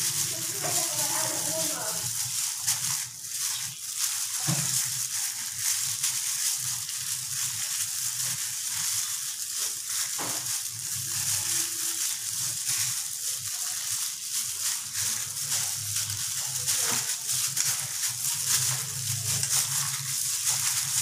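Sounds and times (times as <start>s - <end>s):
plastic glove crinkling: 0.0s - 21.0s
wet squishing of kneaded meat: 0.0s - 21.0s.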